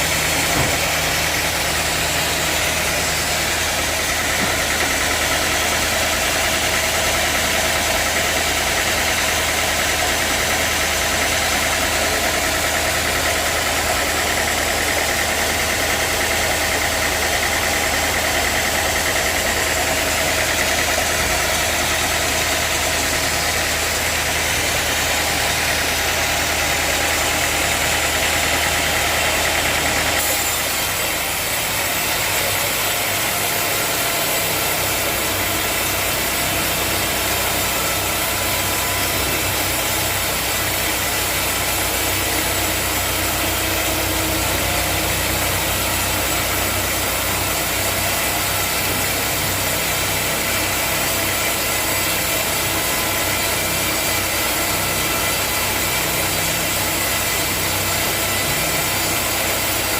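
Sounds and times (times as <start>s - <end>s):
sawmill machinery drone with hiss: 0.0s - 59.9s.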